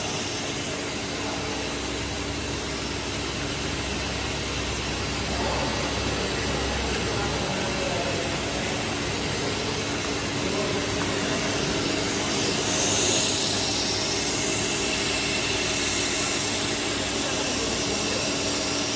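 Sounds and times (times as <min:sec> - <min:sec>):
machine hum and hiss: 0:00.0 - 0:18.9.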